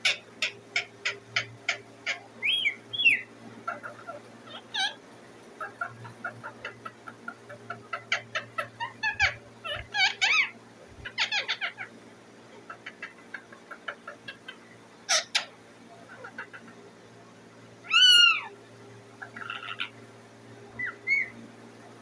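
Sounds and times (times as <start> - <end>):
parakeet chirps and squawks: 0.0 - 12.0, 12.6 - 16.8, 17.8 - 18.6, 19.2 - 20.0, 20.7 - 21.4.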